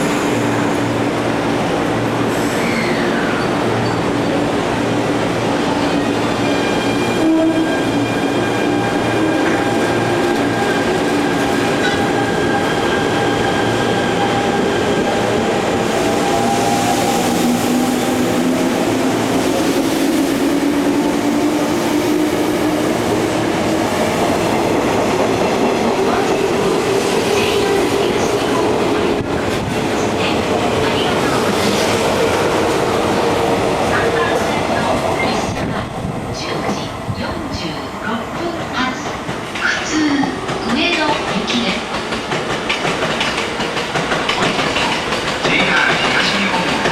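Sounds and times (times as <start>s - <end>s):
electric train passing: 0.0s - 46.9s.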